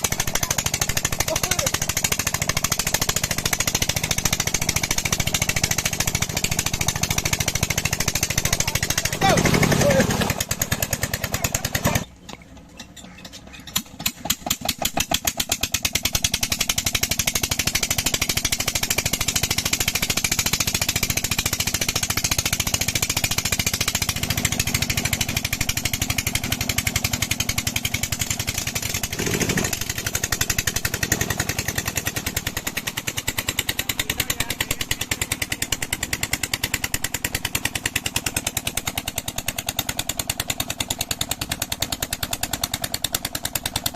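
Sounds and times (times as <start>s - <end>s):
diesel engine beating: 0.0s - 43.9s.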